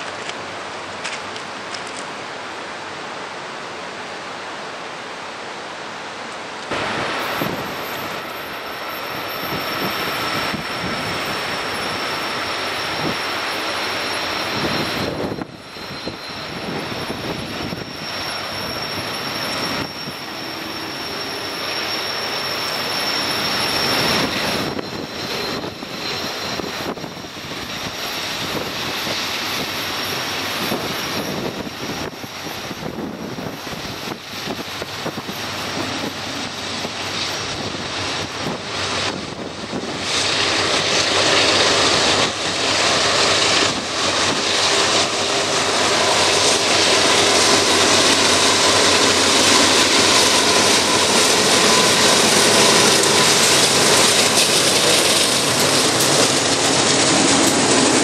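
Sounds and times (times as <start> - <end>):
diesel locomotive engines running: 0.0 - 58.0.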